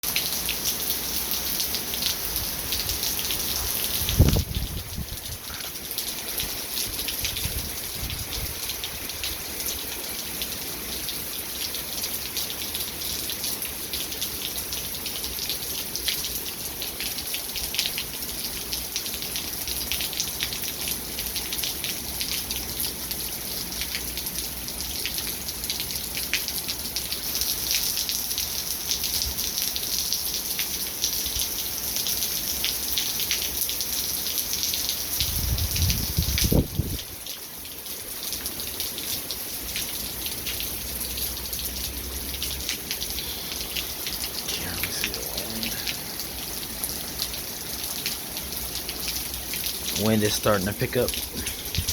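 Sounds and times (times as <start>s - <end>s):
steady heavy rain: 0.0s - 51.9s.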